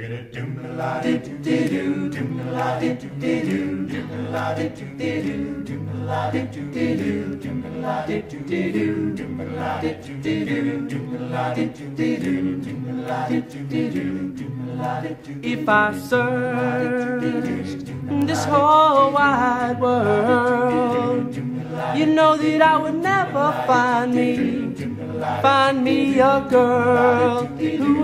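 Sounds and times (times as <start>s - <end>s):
a cappella group singing: 0.0s - 28.0s.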